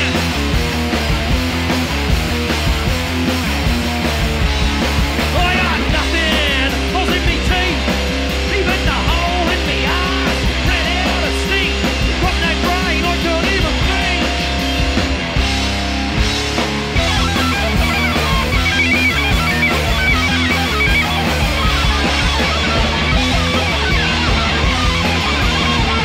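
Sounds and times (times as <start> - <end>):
punk rock music: 0.0 - 26.0.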